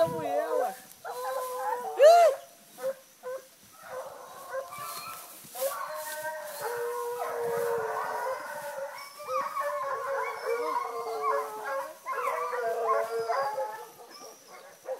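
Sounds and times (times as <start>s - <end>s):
hounds baying and howling: 0.0s - 14.9s.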